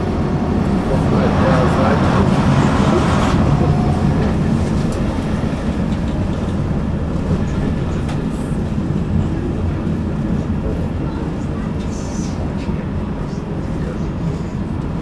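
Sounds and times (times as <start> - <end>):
tram passing: 0.0 - 15.0
tram wheels rumbling on rails: 0.0 - 15.0.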